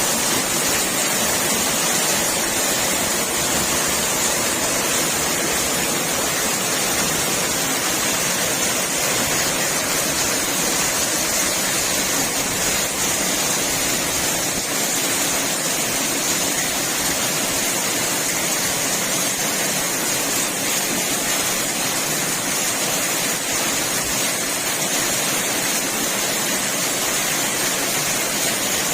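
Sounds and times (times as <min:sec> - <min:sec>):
heavy rain pouring: 0:00.0 - 0:28.9
rainwater rushing over street: 0:00.0 - 0:28.9.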